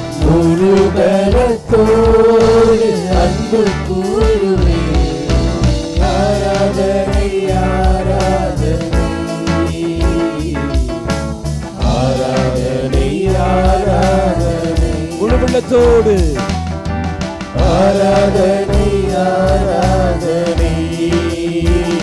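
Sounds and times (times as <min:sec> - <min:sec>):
man singing into a microphone: 0:00.0 - 0:11.1, 0:11.8 - 0:16.4, 0:17.6 - 0:22.0
electric guitar: 0:00.0 - 0:22.0
keyboard: 0:00.0 - 0:22.0
percussion beat: 0:00.0 - 0:22.0.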